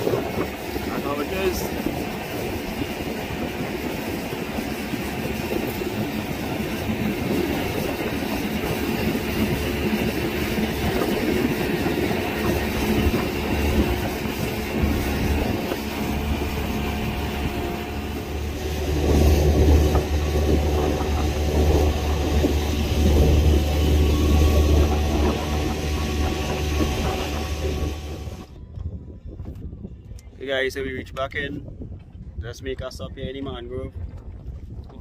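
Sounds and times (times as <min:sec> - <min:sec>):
water rushing: 0:00.0 - 0:28.5
boat engine running: 0:00.0 - 0:28.8
wind: 0:00.0 - 0:35.0.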